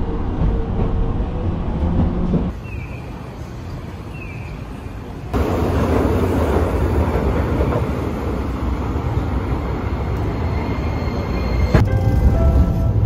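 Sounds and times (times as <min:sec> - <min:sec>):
tram rumbling on tracks: 0:00.0 - 0:13.0.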